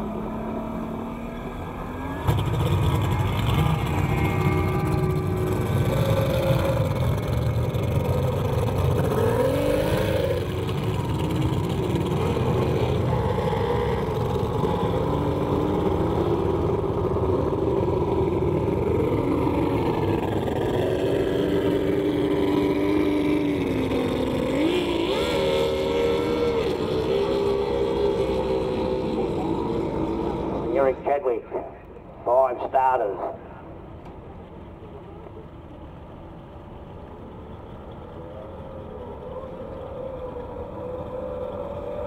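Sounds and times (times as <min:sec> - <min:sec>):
outboard boat engine racing: 0:00.0 - 0:31.5, 0:34.5 - 0:42.0.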